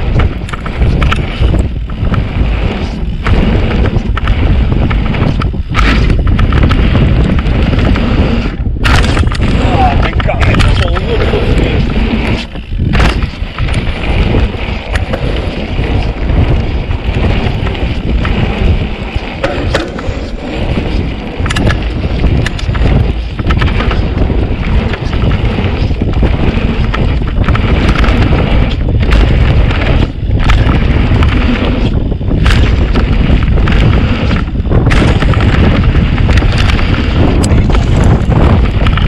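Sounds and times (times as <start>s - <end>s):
bike knocks and rattles: 0.0s - 39.0s
bike tyre noise: 0.0s - 39.0s
wind rumbling on microphone: 0.0s - 39.0s.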